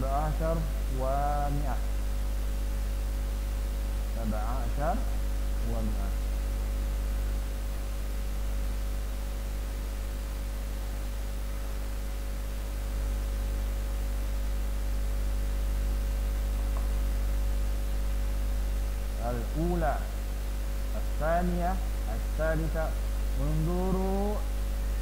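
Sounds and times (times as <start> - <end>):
electrical mains hum: 0.0 - 25.0
faint hiss: 0.0 - 25.0.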